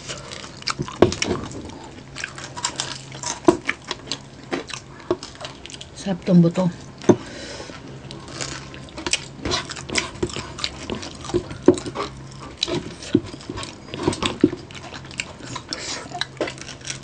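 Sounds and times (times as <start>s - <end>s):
crunching fried skin: 0.0s - 6.0s, 6.8s - 17.0s
wet chewing mouth sounds: 0.0s - 6.0s, 6.9s - 17.0s.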